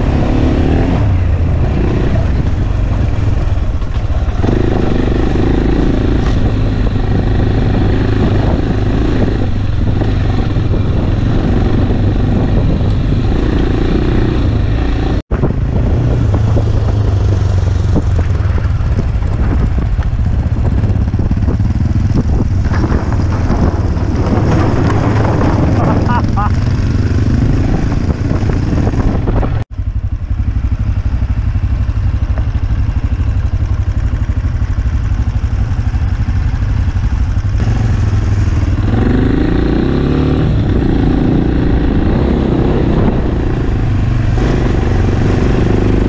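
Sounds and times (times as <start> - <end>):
motorcycle engine running: 0.0 - 46.0
road noise: 0.0 - 46.0
wind noise: 0.0 - 46.0.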